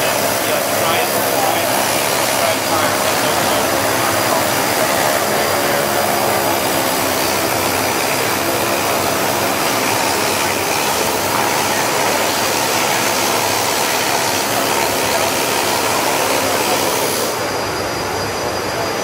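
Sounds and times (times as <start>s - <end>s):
loud machinery and ventilation roar: 0.0s - 19.0s.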